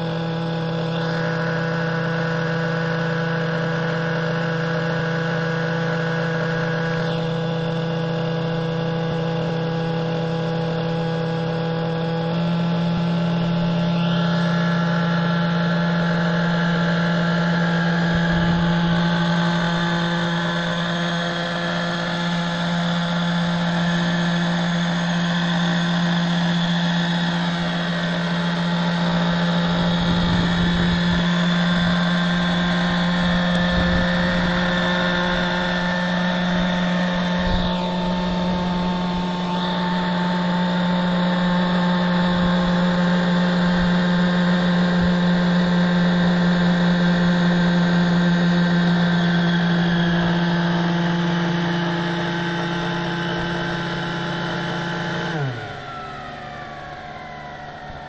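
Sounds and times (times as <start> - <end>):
model helicopter engine running: 0.0 - 58.0.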